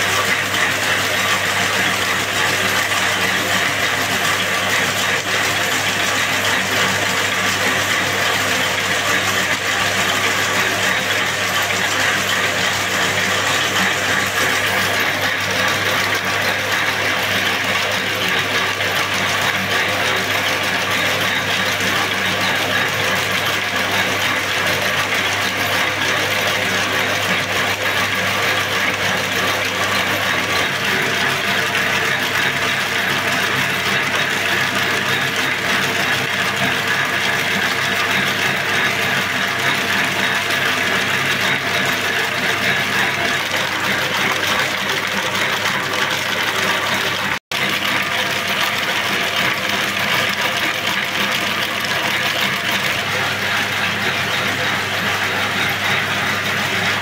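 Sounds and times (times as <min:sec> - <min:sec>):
braiding machine running: 0:00.0 - 0:57.0.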